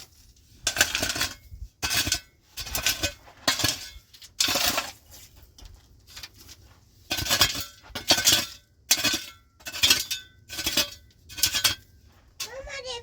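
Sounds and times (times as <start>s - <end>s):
hard objects clinking and scraping: 0.0s - 12.8s.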